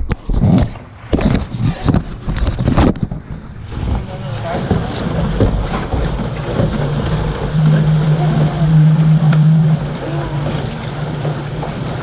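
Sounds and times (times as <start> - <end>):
water noise: 0.0 - 12.0
wind: 0.0 - 12.0
boat motor humming: 0.8 - 12.0.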